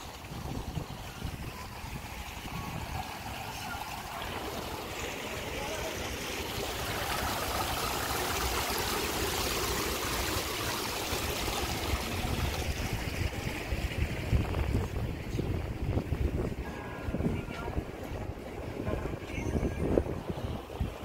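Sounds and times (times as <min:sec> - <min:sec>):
water trickling over glass: 0:00.0 - 0:21.0.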